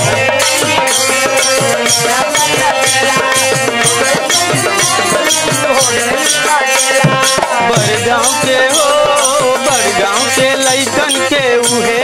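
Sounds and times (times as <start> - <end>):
dholak drum beat: 0.0 - 12.0
harmonium melody: 0.0 - 12.0
jingling hand cymbals: 0.0 - 12.0.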